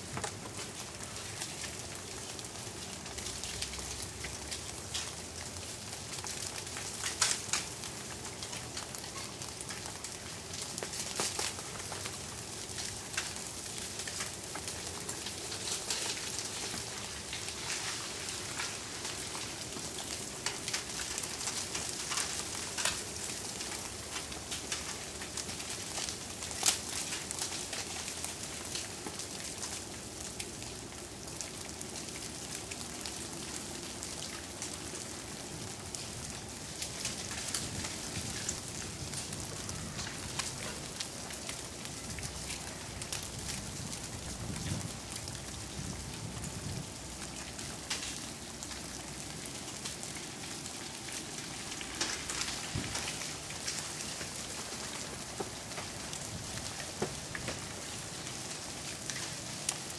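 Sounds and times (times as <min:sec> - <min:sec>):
ice and drips falling from trees: 0:00.0 - 0:59.9.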